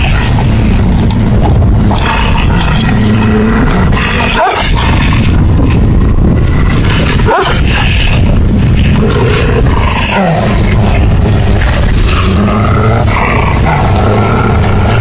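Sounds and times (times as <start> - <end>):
dogs growling and snarling: 0.0 - 15.0.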